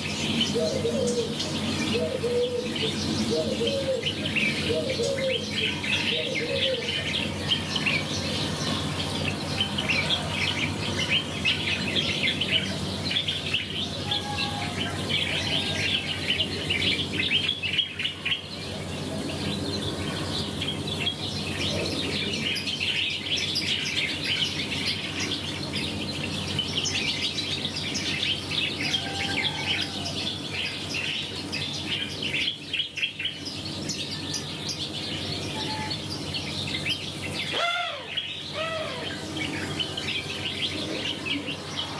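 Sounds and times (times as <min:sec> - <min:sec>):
small birds chirping and twittering: 0:00.0 - 0:41.9.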